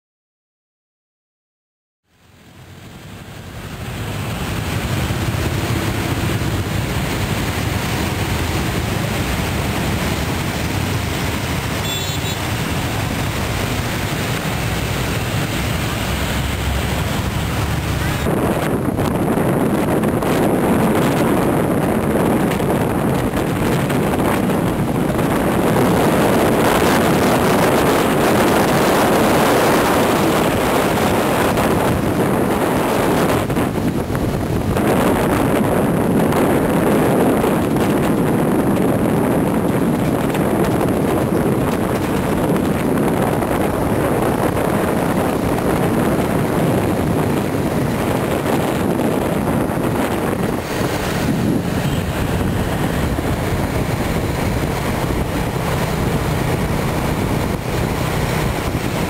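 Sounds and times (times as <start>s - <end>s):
road and traffic noise: 2.0s - 59.0s
wind buffeting microphone: 2.6s - 59.0s.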